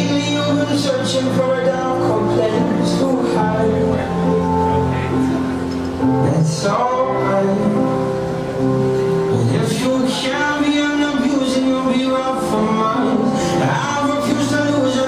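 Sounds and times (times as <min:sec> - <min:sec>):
instrumental backing: 0:00.0 - 0:15.0
person singing long notes: 0:00.0 - 0:15.0.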